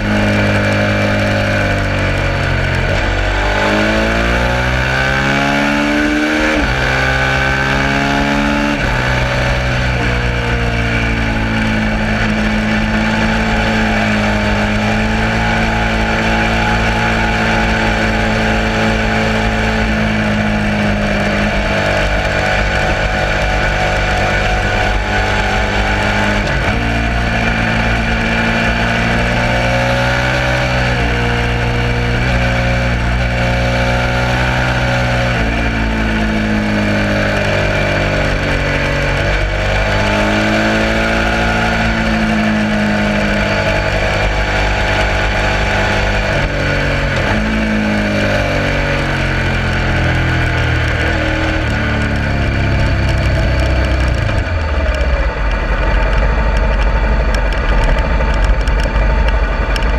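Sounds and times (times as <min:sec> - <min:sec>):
motorcycle engine running hard: 0:00.0 - 0:59.9
wind noise: 0:00.0 - 0:59.9.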